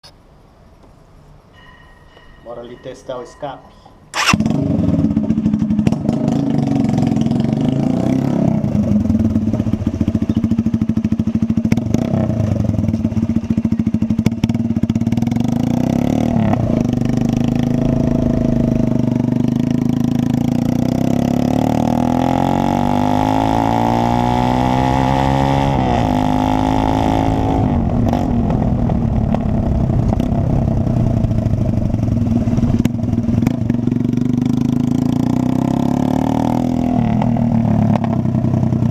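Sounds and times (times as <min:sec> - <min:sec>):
motorcycle engine revving: 0:04.1 - 0:38.9.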